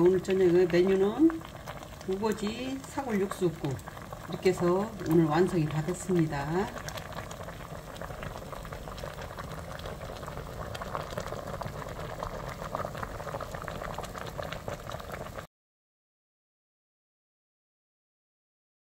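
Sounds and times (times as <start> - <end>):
soup bubbling at a boil: 0.0 - 15.5.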